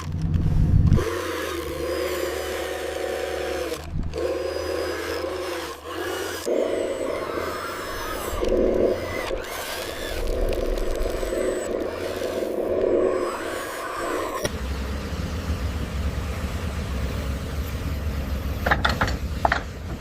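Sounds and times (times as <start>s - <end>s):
small electric motors whining: 0.0s - 20.0s.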